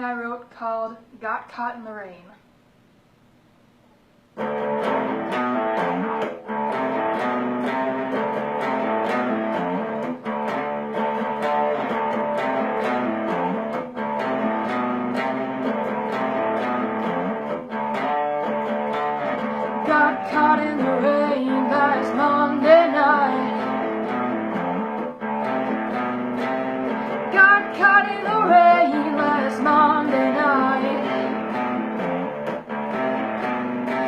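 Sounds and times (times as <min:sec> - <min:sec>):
guitar strumming: 0:04.3 - 0:34.0.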